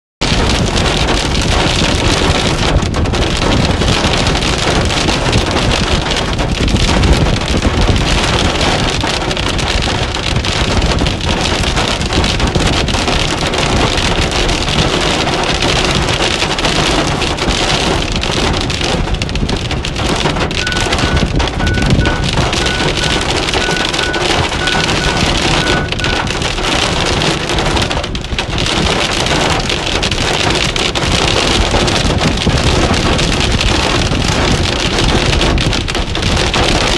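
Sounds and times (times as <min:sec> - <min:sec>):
hail clattering on car: 0:00.2 - 0:36.9
heavy rain: 0:00.2 - 0:36.9.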